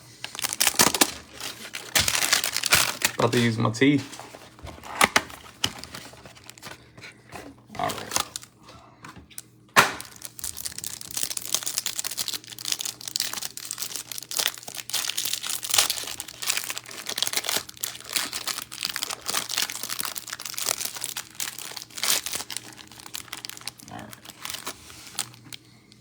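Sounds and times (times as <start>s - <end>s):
plastic wrap crackling and tearing: 0.0s - 8.6s, 9.8s - 26.0s
plastic wrap snapping: 0.2s - 6.8s, 7.8s - 8.5s, 9.8s - 26.0s.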